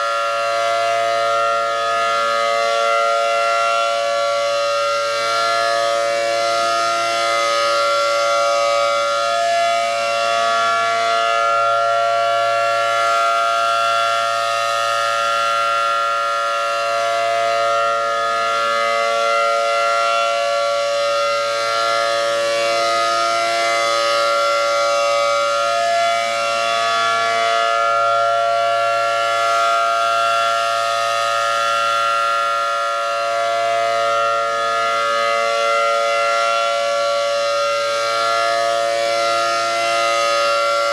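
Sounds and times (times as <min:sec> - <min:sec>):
siren chord of held tones: 0:00.0 - 0:40.9.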